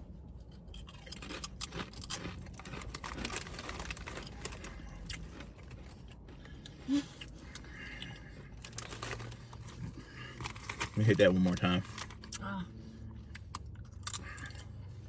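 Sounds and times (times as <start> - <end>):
crunching tortilla chips: 0.3 - 12.4, 13.2 - 14.9.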